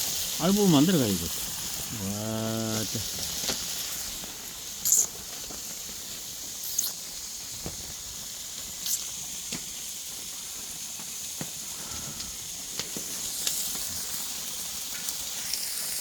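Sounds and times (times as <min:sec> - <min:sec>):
pork belly sizzling: 0:00.0 - 0:16.0.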